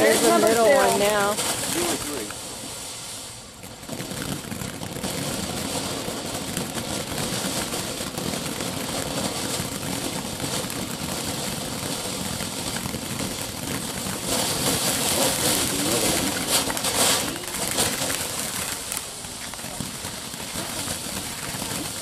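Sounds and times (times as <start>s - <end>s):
firework fountain sputtering hiss: 0.0s - 22.0s.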